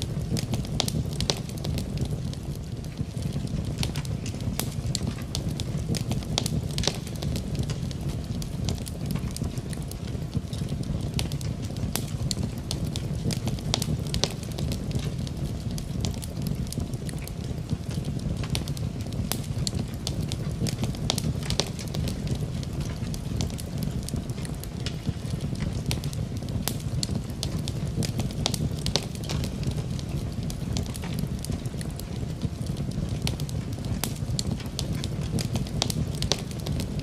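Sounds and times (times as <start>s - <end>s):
low rumble of flames: 0.0s - 37.0s
wood fire crackling: 0.0s - 37.0s.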